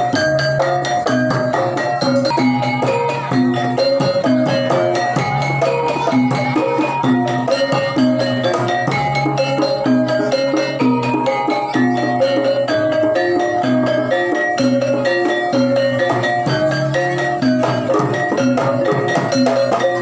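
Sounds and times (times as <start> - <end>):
steady drumming: 0.0 - 20.0
struck metal instruments melody: 0.0 - 20.0.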